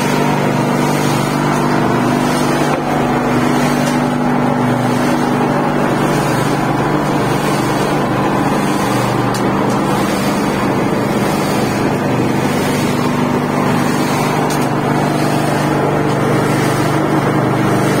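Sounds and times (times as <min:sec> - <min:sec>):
concrete mixer drone: 0:00.0 - 0:18.0.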